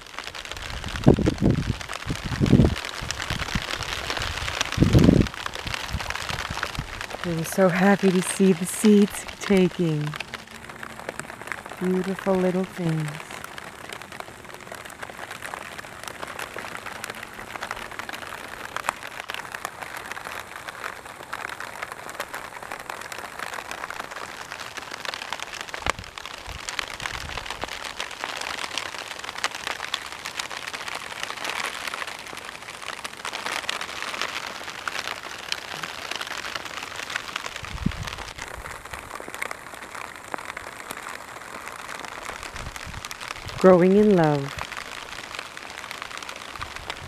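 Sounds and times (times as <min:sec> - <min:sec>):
rain falling on soil and grass: 0:00.0 - 0:47.0.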